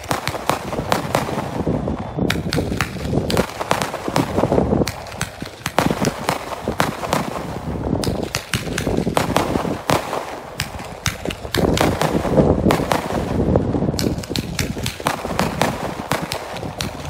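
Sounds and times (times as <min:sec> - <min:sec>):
sharp firework pops: 0:00.0 - 0:01.6, 0:02.2 - 0:17.0
fireworks bangs: 0:00.0 - 0:17.0.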